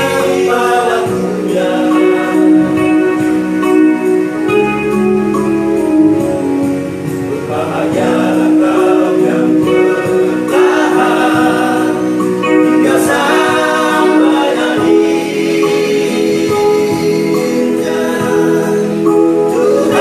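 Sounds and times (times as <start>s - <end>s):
male vocal group singing in harmony: 0.0s - 3.7s, 7.1s - 20.0s
guitar-led instrumental backing: 0.0s - 20.0s.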